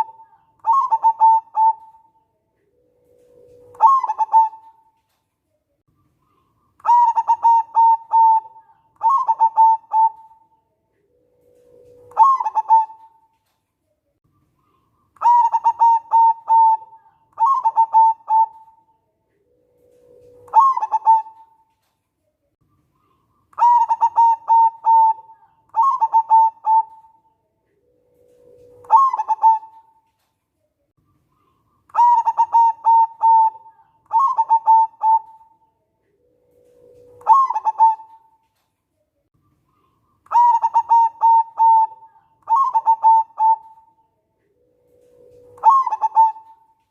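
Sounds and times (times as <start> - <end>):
dove cooing: 0.0 - 5.0, 6.3 - 13.4, 14.6 - 21.9, 22.9 - 30.3, 31.2 - 38.6, 39.6 - 46.9.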